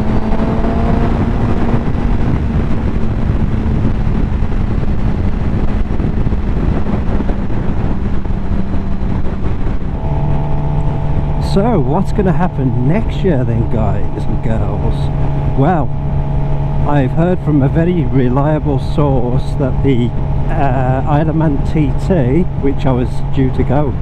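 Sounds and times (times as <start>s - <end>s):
motorcycle engine cruising: 0.0s - 24.0s
wind rushing over microphone: 0.0s - 24.0s.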